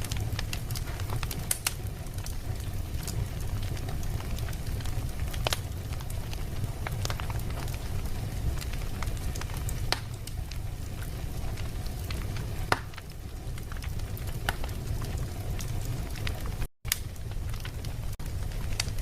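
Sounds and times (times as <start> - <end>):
fire popping: 0.0 - 19.0
wood fire crackling: 0.0 - 19.0.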